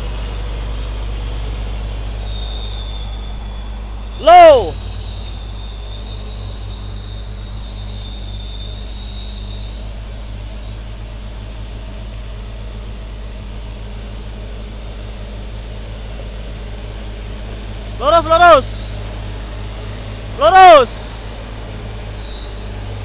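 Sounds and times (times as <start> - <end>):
thin high whine: 0.0 - 23.0
truck diesel engine under load: 0.0 - 23.0.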